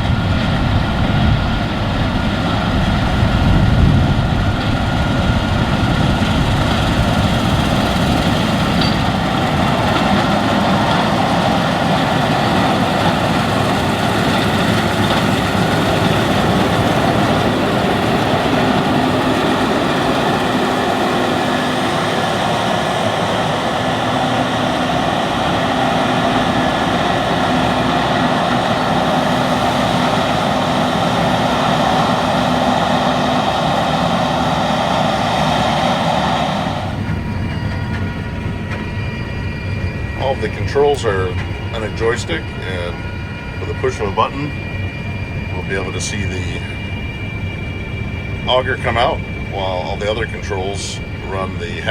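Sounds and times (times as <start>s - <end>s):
combine harvester engine droning: 0.0s - 51.9s.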